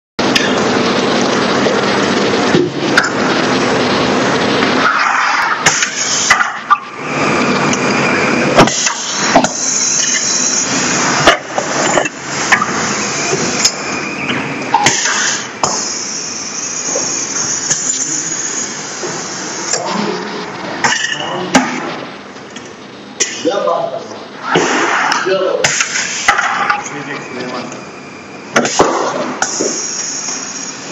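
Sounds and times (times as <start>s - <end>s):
printing machine whirring: 0.2s - 30.9s.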